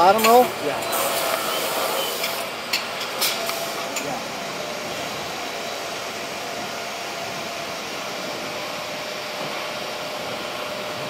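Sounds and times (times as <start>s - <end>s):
packaging machine running: 0.0s - 11.0s.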